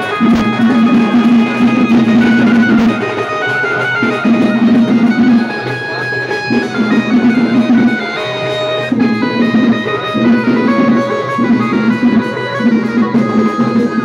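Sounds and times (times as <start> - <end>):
drums: 0.0 - 14.0
music through horn loudspeakers: 0.0 - 14.0
plucked-string melody: 0.0 - 14.0.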